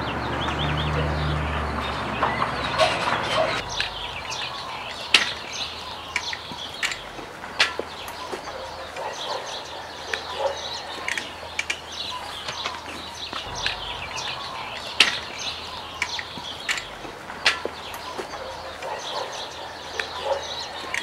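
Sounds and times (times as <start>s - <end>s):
birds chirping: 0.0s - 21.0s
sharp clicks: 2.2s - 19.0s.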